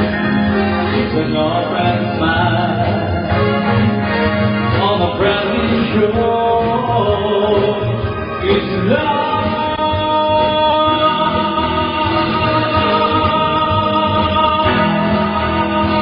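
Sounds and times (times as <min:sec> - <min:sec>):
man singing into microphone: 0:00.0 - 0:03.8, 0:04.7 - 0:16.0
synthesizer keyboard: 0:00.0 - 0:16.0.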